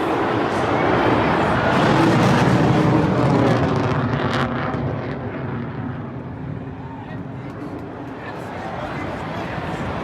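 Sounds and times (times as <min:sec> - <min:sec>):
military jet roaring overhead: 0:00.0 - 0:10.0.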